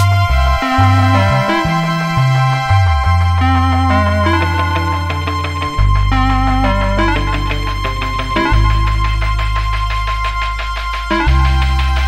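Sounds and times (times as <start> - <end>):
bass line: 0.0 - 12.0
sustained keyboard notes: 0.0 - 12.0.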